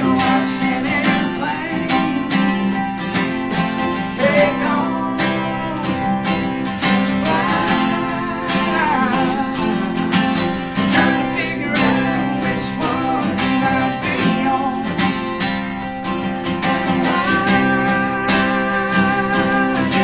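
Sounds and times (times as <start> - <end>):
country band playing live: 0.0 - 20.0
strummed acoustic guitar: 0.0 - 20.0.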